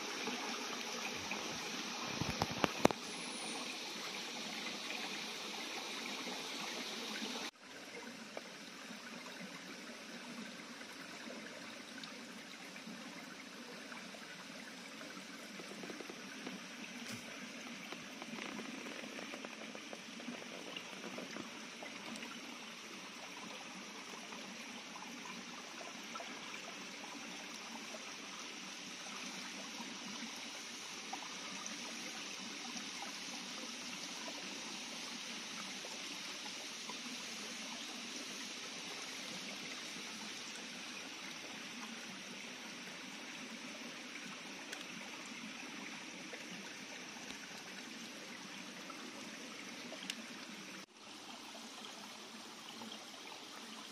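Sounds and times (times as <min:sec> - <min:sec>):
stream trickling over stones: 0:00.0 - 0:53.9.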